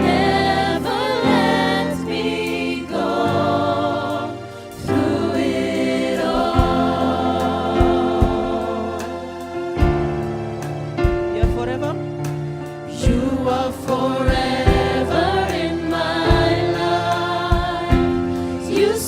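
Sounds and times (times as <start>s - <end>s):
drum beats: 0.0s - 19.0s
worship team singing with band: 0.0s - 19.0s.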